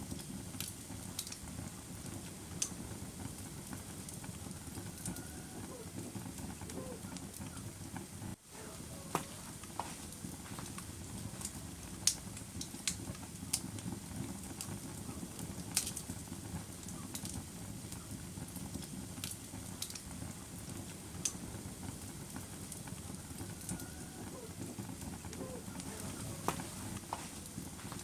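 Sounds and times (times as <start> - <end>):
fire popping and crackling: 0.0 - 28.0
wood fire rumbling: 0.0 - 28.0.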